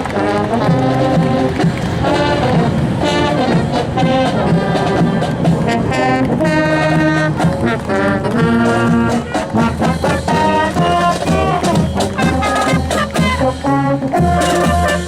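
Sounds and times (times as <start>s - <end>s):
brass band playing held chords: 0.0s - 15.0s.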